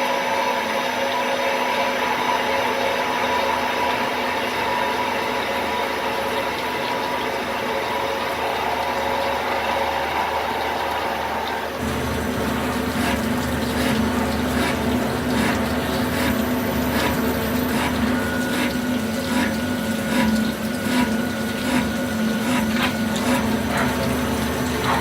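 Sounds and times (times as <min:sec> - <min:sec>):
lathe humming: 0:00.6 - 0:25.0
coolant splashing: 0:01.0 - 0:25.0.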